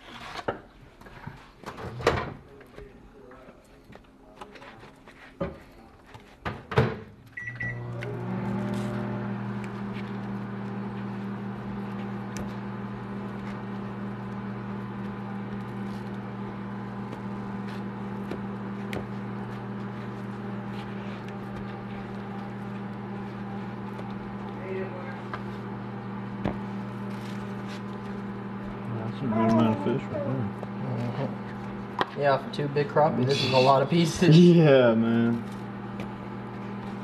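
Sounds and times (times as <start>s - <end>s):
kitchen appliance humming: 7.3s - 37.0s.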